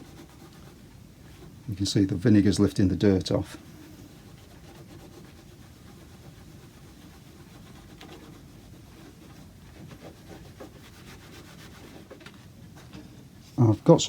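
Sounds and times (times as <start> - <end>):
cloth rubbing on wood: 0.0 - 14.0.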